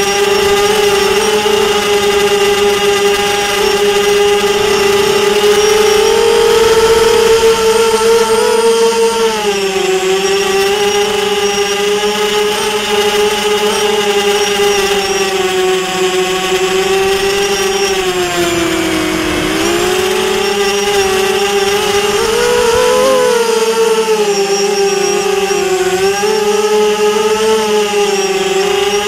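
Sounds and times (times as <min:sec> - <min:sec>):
drone motors and propellers whining: 0:00.0 - 0:29.0.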